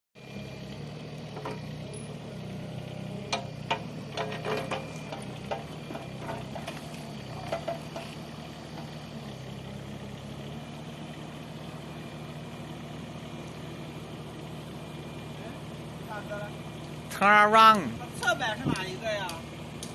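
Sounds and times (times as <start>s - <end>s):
excavator diesel engine idling: 0.2s - 19.9s.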